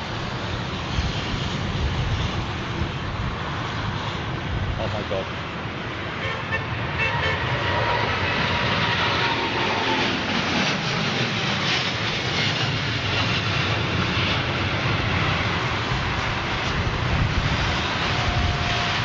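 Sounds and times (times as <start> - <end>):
jet airliner engine rushing: 0.0 - 19.0.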